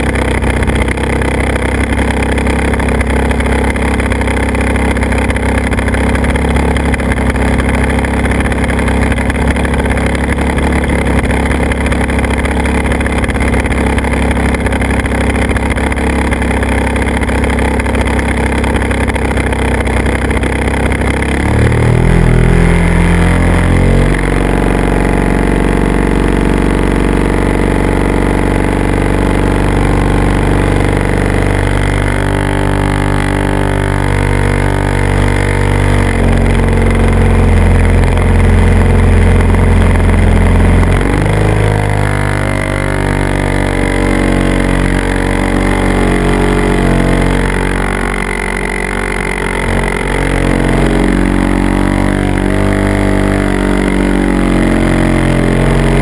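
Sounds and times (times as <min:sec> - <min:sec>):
model aircraft motor and propeller: 0:00.0 - 0:56.0.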